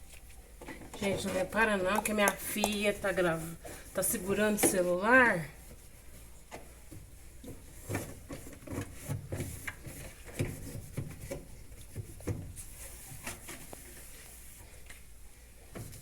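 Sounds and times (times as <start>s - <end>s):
scrubbing and wiping strokes: 1.1s - 15.1s.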